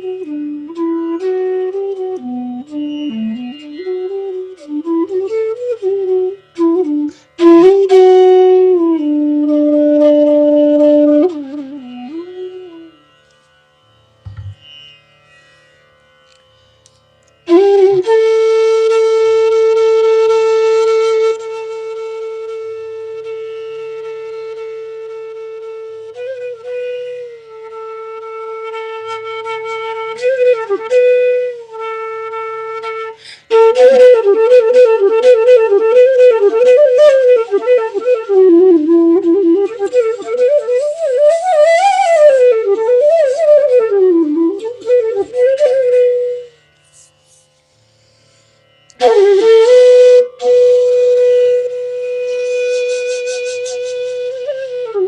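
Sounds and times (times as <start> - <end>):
bamboo flute playing: 0.0 - 13.4, 17.4 - 47.4, 48.9 - 55.0.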